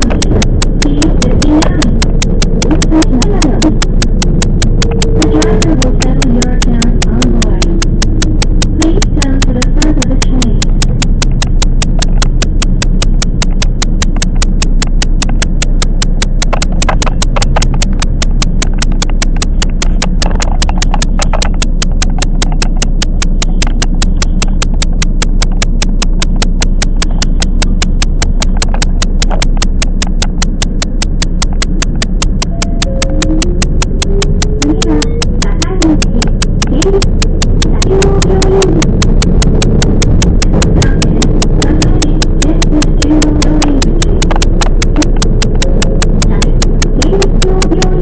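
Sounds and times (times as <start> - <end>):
electric train running hum: 0.0 - 48.0
sharp even ticking: 0.0 - 48.0.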